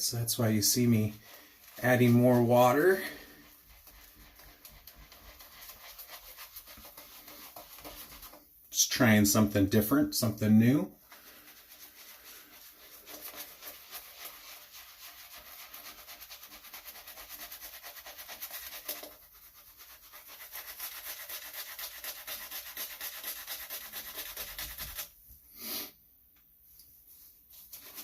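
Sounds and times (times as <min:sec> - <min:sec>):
shaving brush scrubbing: 0:00.0 - 0:08.5, 0:10.2 - 0:25.2, 0:27.1 - 0:28.0.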